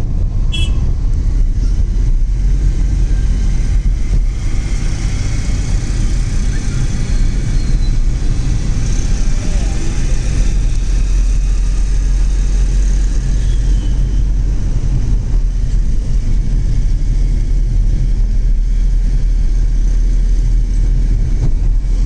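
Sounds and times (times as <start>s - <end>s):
car cabin engine and tyre noise: 0.0s - 22.0s.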